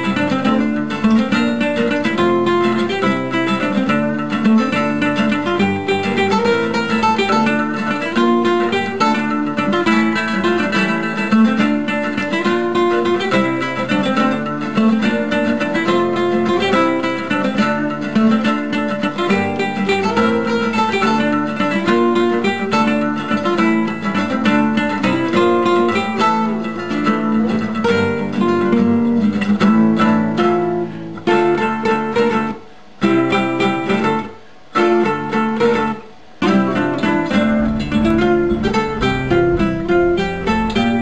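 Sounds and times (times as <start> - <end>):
fast plucked guitar music: 0.0 - 41.0.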